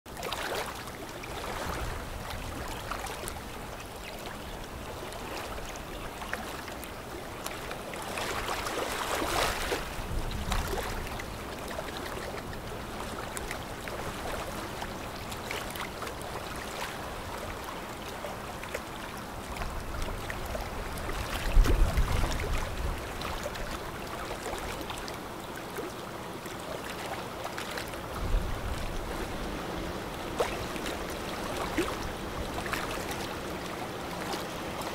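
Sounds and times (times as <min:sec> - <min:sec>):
water rushing and splashing: 0:00.1 - 0:34.9.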